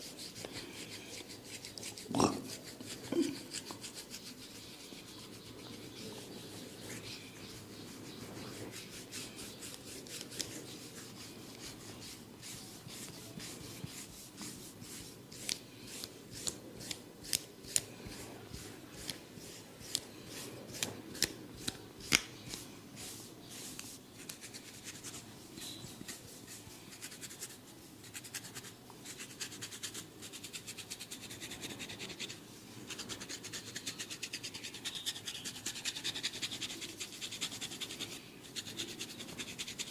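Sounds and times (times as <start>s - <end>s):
rubbing and scratching through hair: 0.0s - 21.8s, 22.4s - 39.9s.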